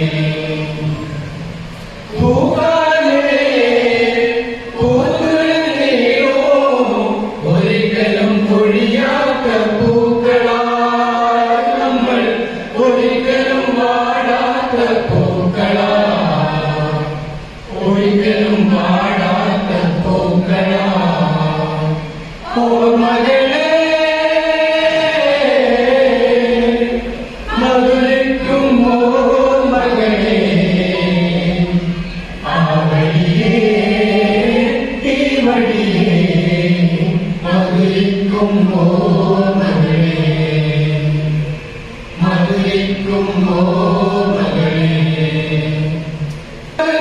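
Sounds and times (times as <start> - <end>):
voices singing in unison: 0.0 - 47.0.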